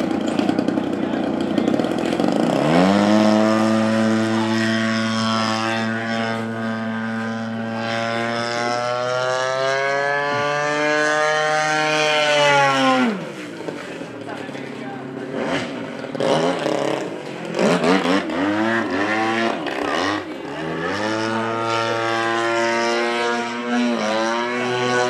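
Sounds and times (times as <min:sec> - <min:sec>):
model plane engine revving: 0:00.0 - 0:14.3, 0:15.0 - 0:25.0.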